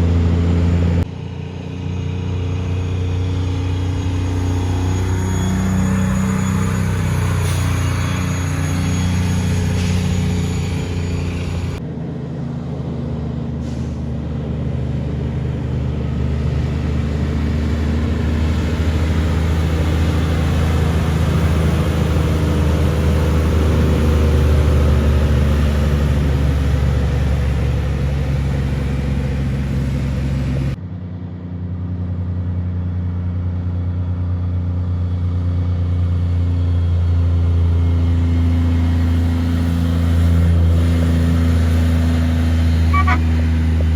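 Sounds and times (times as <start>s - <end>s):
trucks driving past: 0.0s - 30.8s, 35.1s - 43.9s.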